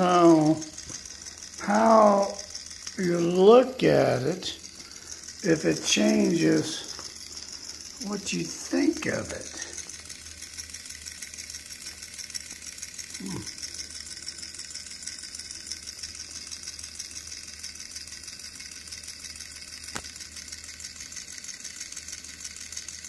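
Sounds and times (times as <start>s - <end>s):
toy motor rattling: 0.0s - 23.0s.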